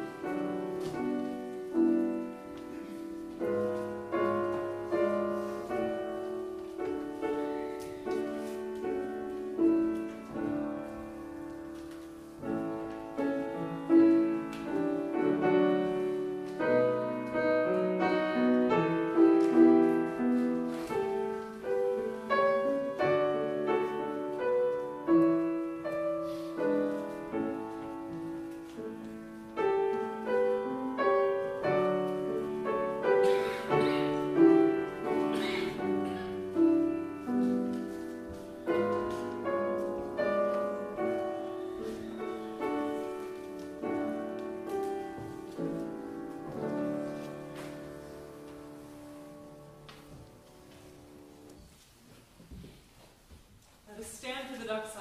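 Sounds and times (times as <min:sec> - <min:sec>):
calm piano piece: 0:00.0 - 0:55.0.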